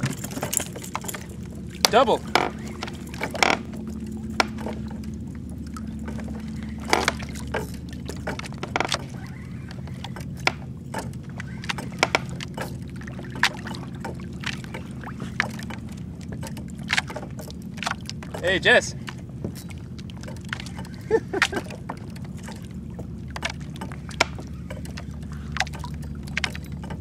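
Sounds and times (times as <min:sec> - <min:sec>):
low steady hum: 0:00.0 - 0:27.0
small splashes: 0:00.0 - 0:27.0
water lapping against hull: 0:00.0 - 0:27.0.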